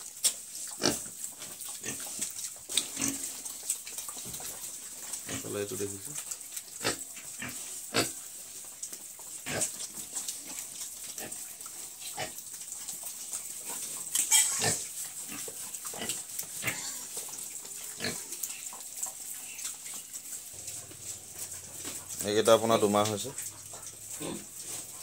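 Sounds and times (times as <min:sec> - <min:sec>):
pigs grunting: 0:00.7 - 0:08.4, 0:09.4 - 0:25.0.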